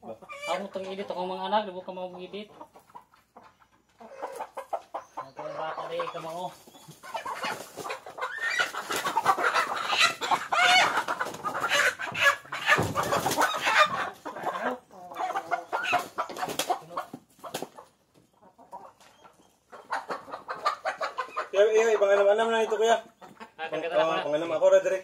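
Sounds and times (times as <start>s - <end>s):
chickens squawking and clucking: 0.0s - 25.0s.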